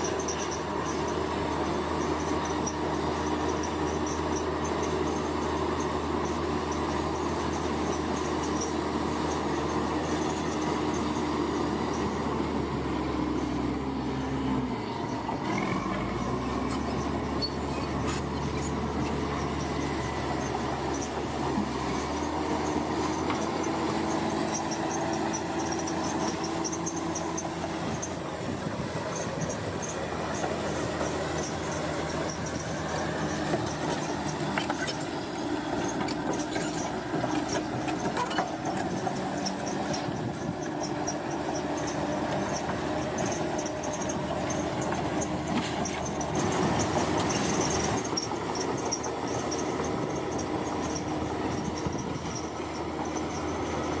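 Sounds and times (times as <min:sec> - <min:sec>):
metallic squeal of tracks: 0:00.0 - 0:12.4, 0:14.8 - 0:54.0
bulldozer diesel engine: 0:00.0 - 0:54.0.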